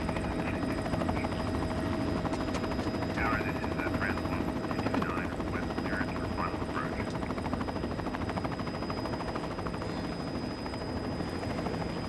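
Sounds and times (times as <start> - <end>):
helicopter high whine: 0.0 - 12.0
helicopter rotor chopping: 0.0 - 12.0.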